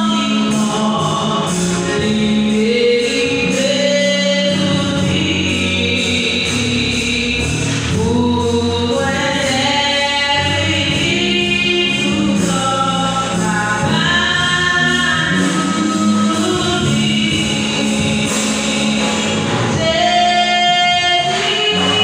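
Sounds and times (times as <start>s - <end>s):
low accompaniment: 0.0s - 22.0s
voices singing in harmony: 0.0s - 22.0s.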